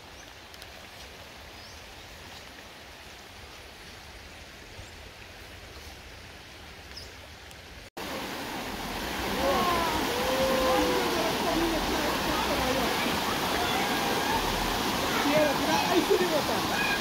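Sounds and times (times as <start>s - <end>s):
stream flowing: 0.0s - 17.0s.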